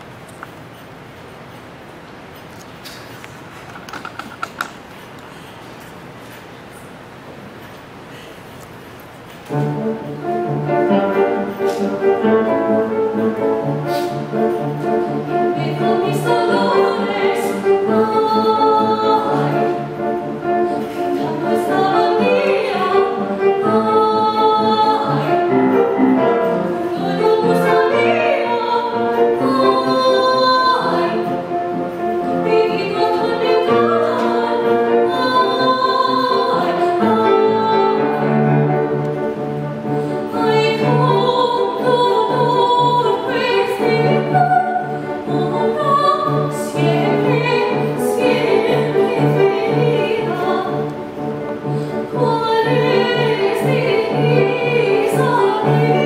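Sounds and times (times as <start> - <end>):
soprano woman singing: 9.6 - 38.8, 40.2 - 56.0.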